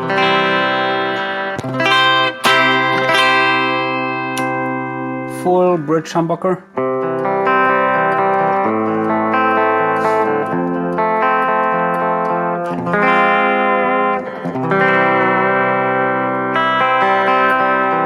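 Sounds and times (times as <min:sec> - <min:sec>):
clean electric guitar chords: 0:00.0 - 0:18.0.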